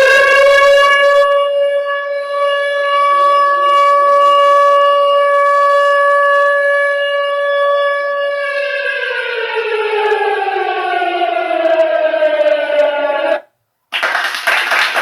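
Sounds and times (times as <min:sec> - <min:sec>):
tornado siren wail: 0:00.0 - 0:13.5.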